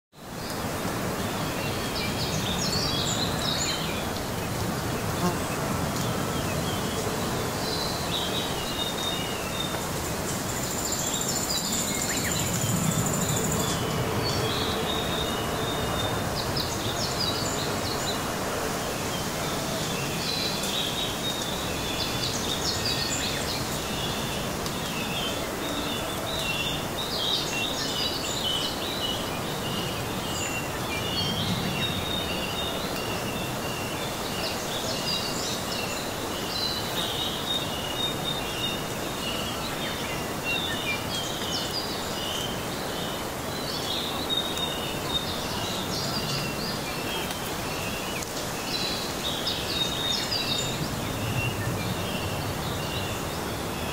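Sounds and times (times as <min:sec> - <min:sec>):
birds chirping and twittering: 0:00.2 - 0:53.9
outdoor background hiss: 0:00.2 - 0:53.9.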